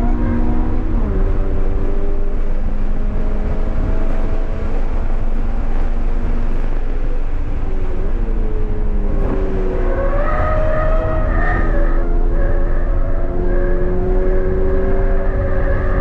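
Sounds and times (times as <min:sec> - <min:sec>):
car engine revving: 0:00.0 - 0:16.0
road and wind noise: 0:00.0 - 0:16.0.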